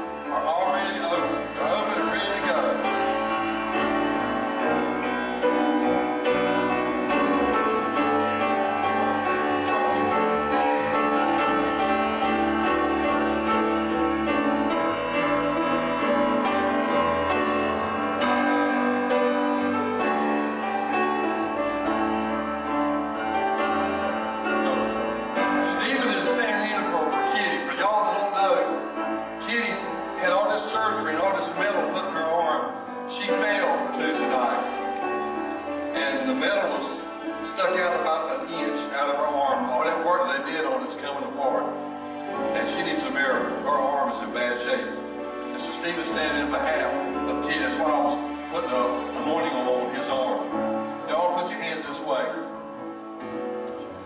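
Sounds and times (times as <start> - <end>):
slow worship music: 0.0 - 54.0
sustained keyboard and piano chords: 0.0 - 54.0.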